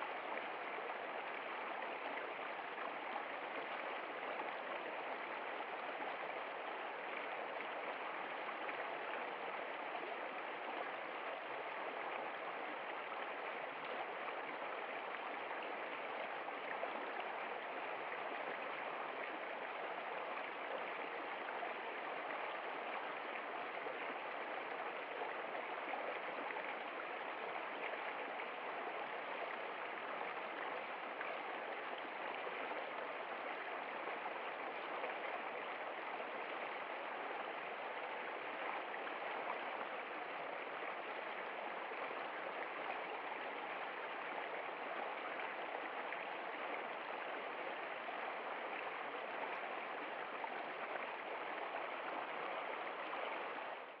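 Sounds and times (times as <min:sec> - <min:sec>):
stream splashing over rocks: 0:00.0 - 0:54.0.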